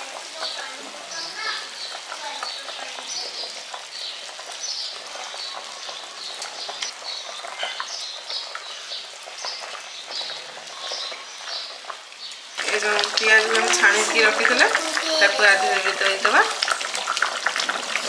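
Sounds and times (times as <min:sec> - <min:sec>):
curry boiling with bubbles popping: 0:00.0 - 0:18.0.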